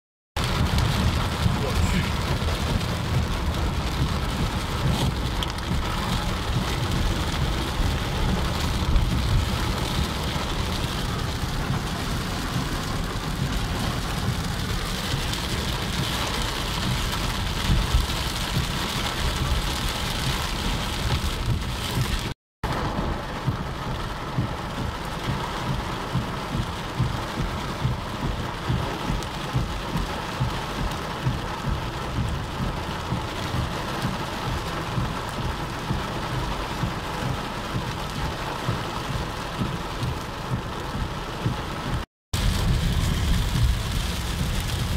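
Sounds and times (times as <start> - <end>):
heavy rain on car roof: 0.4 - 44.9
steady low rumble: 0.4 - 44.9.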